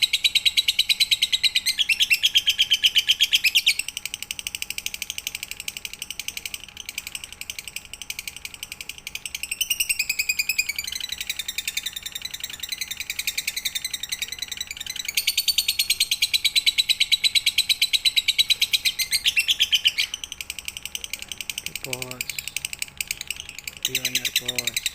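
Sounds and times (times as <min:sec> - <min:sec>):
lovebird chattering trill: 0:00.0 - 0:24.9.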